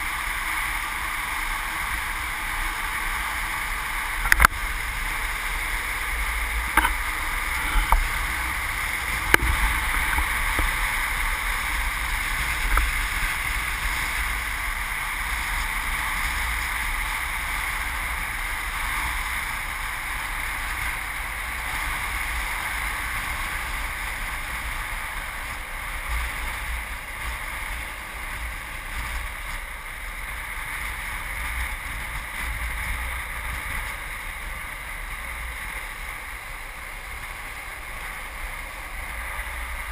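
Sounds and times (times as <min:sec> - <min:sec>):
longboard wheels rolling on asphalt: 0:00.0 - 0:39.9
wind rushing over microphone: 0:00.0 - 0:39.9.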